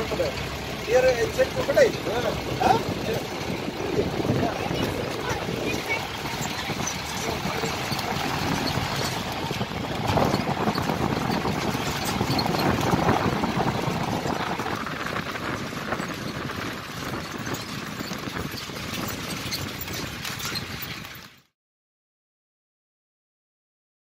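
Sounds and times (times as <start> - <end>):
vehicle engine and road noise: 0.0 - 21.5.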